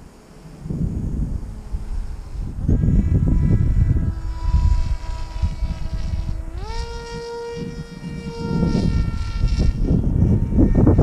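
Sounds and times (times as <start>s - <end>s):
model plane motor buzzing: 0.0s - 11.0s
wind rumbling on microphone: 0.0s - 11.0s.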